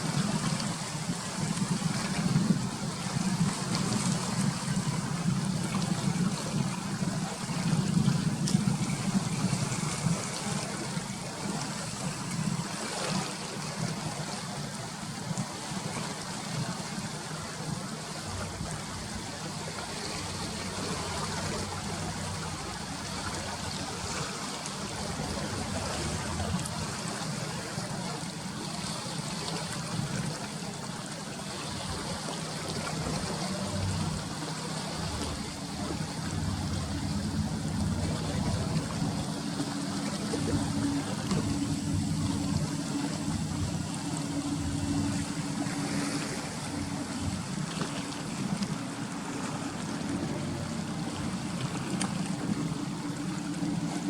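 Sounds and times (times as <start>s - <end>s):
low engine hum: 0.0s - 54.0s
water splashing against breakwater: 0.0s - 54.0s.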